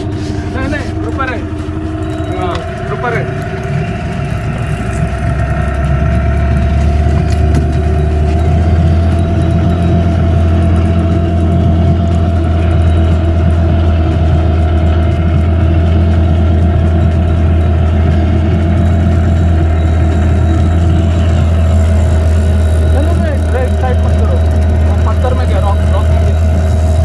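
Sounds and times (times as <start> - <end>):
boat motor droning: 0.0 - 27.0.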